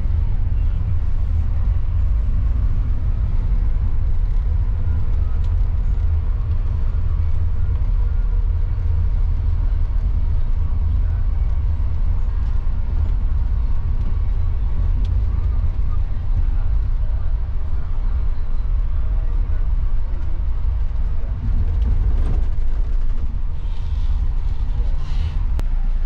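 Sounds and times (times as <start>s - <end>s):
coach road and drivetrain rumble: 0.0s - 26.0s.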